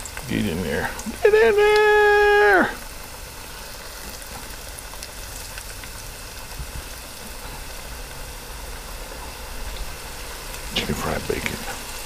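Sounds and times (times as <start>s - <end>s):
bacon sizzling in deep fryer: 0.0s - 12.0s.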